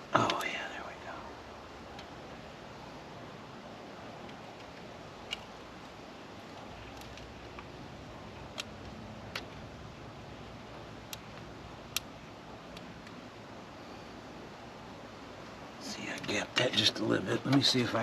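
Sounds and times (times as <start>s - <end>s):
faint background noise: 0.0s - 18.0s.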